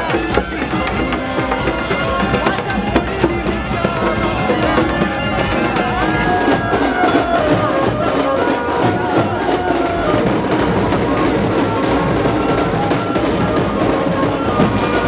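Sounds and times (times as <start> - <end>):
fast drumbeat: 0.0 - 15.0
sustained melody: 0.0 - 15.0.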